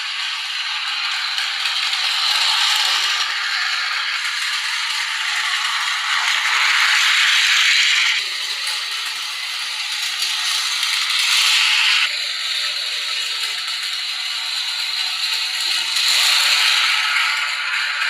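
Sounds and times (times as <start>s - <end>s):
toy locomotive motor whirring: 0.0s - 18.0s.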